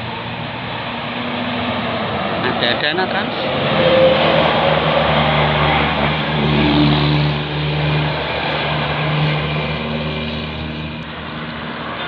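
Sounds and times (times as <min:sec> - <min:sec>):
bus diesel engine droning: 0:00.0 - 0:12.0
road noise: 0:00.0 - 0:12.0.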